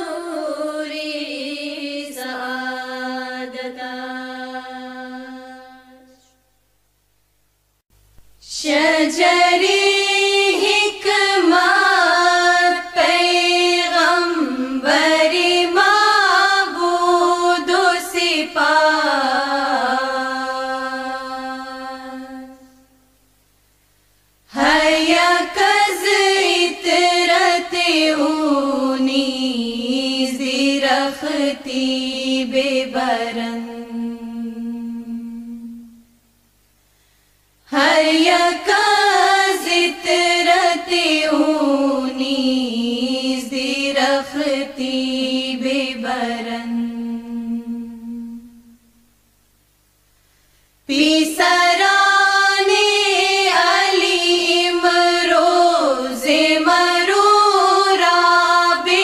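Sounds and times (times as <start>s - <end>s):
solo voice chanting: 0.0s - 6.4s, 8.4s - 23.2s, 24.5s - 36.2s, 37.6s - 49.1s, 50.9s - 59.0s.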